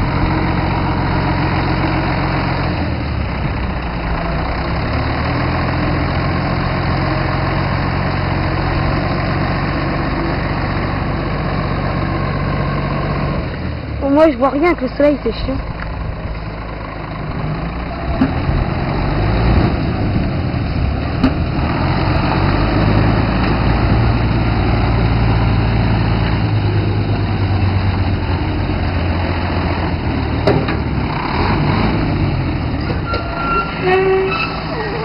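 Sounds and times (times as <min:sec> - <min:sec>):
diesel truck engine drone: 0:00.0 - 0:35.0.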